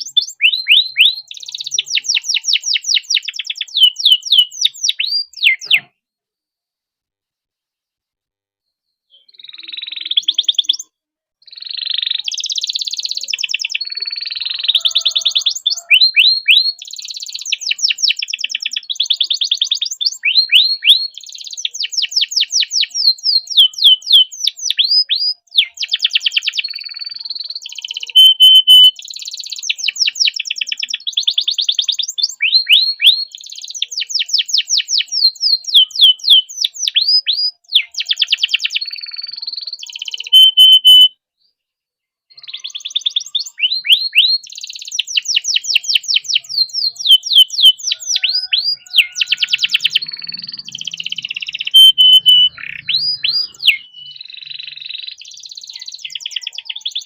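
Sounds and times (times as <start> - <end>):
canary singing trills: 0.0 - 5.9, 9.1 - 41.1, 42.3 - 57.0.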